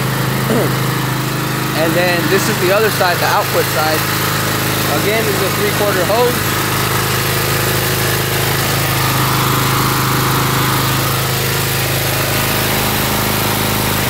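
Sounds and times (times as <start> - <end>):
pressure washer engine running: 0.0 - 14.0.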